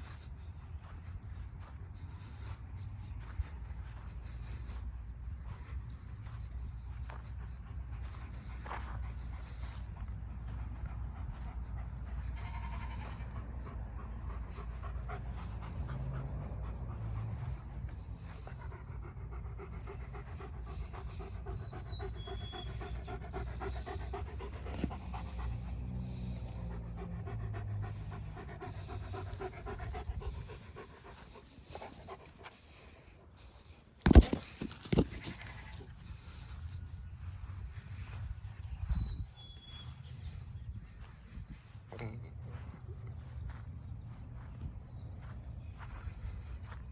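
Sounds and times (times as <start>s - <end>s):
dog panting: 0.0s - 46.9s.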